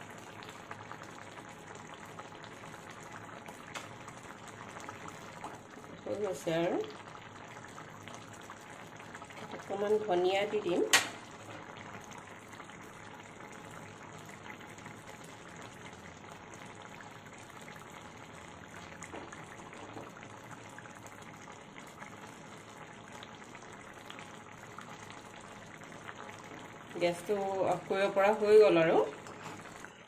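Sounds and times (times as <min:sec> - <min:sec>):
curry bubbling and popping: 0:00.0 - 0:30.0.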